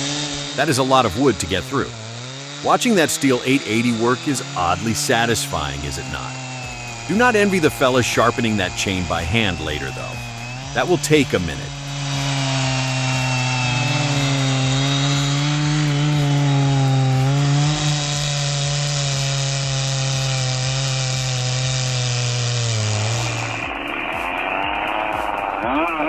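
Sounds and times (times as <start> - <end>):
chainsaw cutting log: 0.0 - 26.0.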